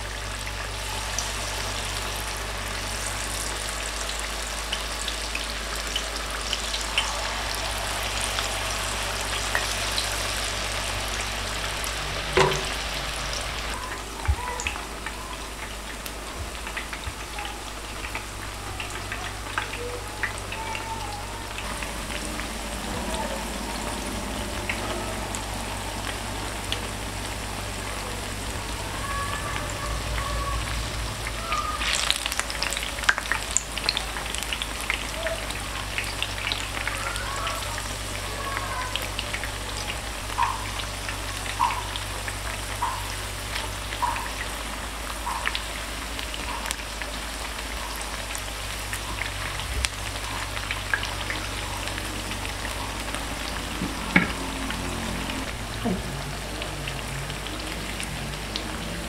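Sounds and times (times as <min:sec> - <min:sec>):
food deep-frying in hot oil: 0:00.0 - 0:59.0.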